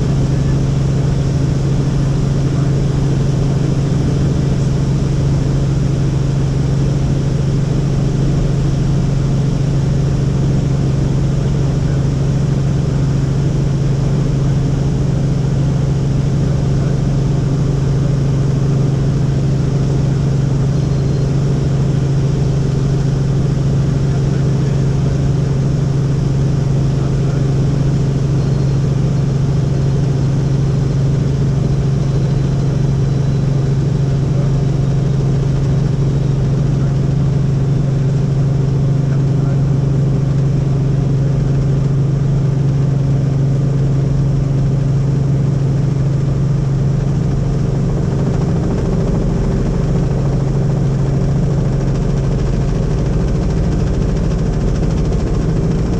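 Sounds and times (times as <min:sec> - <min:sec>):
helicopter engine and rotors: 0:00.0 - 0:55.9.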